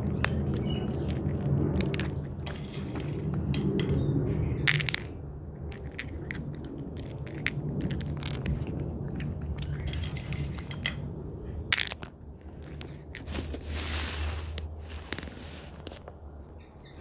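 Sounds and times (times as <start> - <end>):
cat chewing dry food: 0.0 - 4.0, 4.7 - 16.0
steady low rumble: 0.0 - 17.0.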